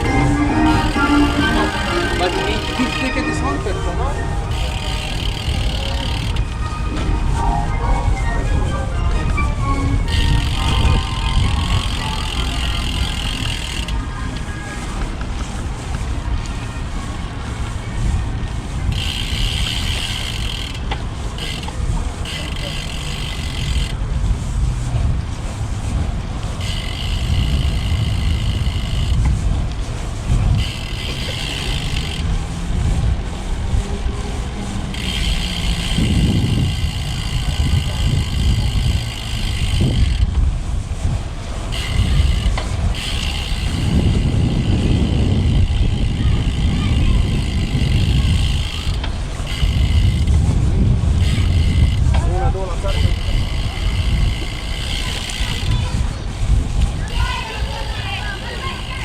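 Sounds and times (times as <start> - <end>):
wind buffeting microphone: 2.6 - 59.0
bicycle freewheel ratchet buzzing: 4.4 - 7.3, 9.7 - 14.2, 18.7 - 59.0.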